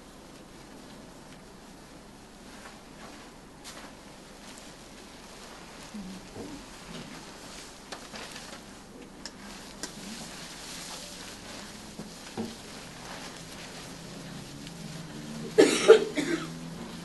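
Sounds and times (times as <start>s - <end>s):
rustling of protective coverall: 0.0s - 17.0s
gloved hands rubbing together: 2.3s - 17.0s.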